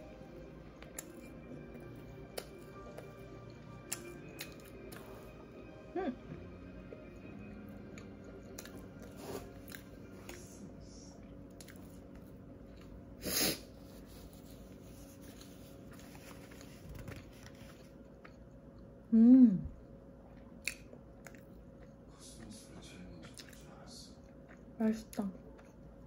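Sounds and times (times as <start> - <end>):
chewing and biting food: 0.1 - 5.4, 7.1 - 10.5, 11.2 - 13.2, 13.8 - 18.9, 20.2 - 26.0.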